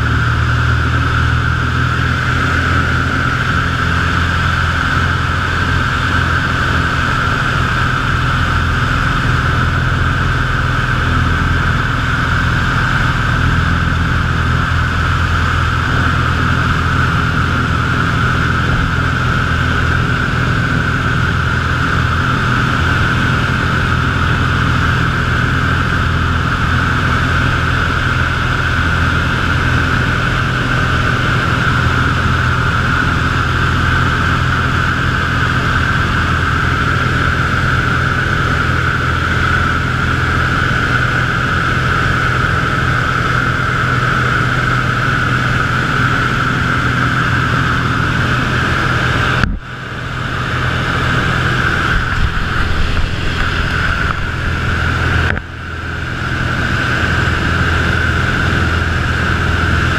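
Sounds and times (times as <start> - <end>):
propeller plane engine drone: 0.0 - 59.9.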